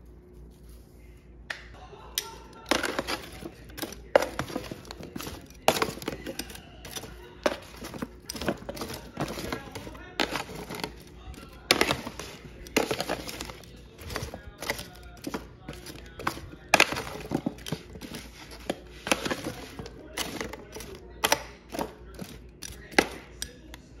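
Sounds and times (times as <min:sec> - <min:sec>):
potatoes shuffling: 0:00.0 - 0:01.3, 0:02.2 - 0:24.0
metal tongs clanking on foil: 0:02.2 - 0:23.7.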